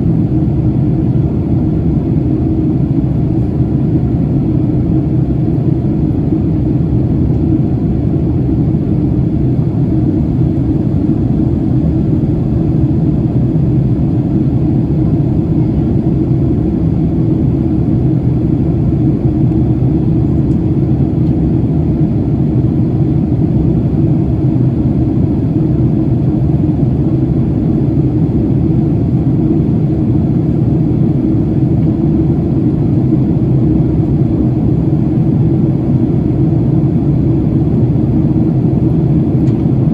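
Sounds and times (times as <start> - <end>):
jet airliner cabin rumble: 0.0 - 39.9.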